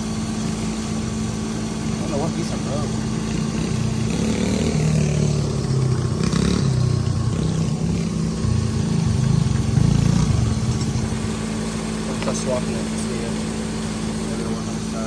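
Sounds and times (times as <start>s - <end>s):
vehicle engine idling: 0.0s - 15.0s
mini bike engine revving: 2.1s - 14.7s.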